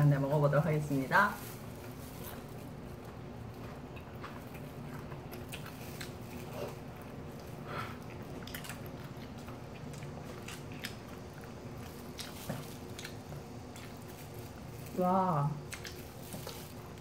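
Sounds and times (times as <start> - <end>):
people chewing fried chicken: 1.4 - 17.0.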